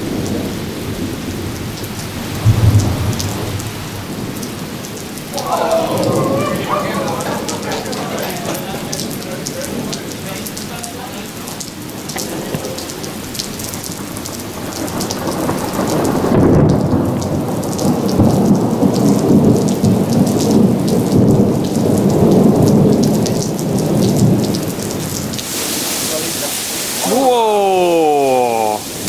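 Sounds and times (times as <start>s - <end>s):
thunder rumbling: 0.0s - 25.9s
heavy rain: 0.0s - 29.0s
raindrops pattering: 0.0s - 29.0s.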